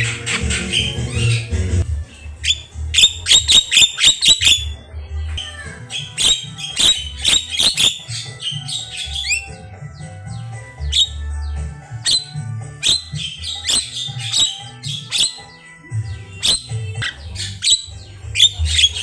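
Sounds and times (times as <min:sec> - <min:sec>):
bird singing sharp notes: 0:00.0 - 0:04.8, 0:05.4 - 0:19.0
background music with low beat: 0:00.0 - 0:19.0.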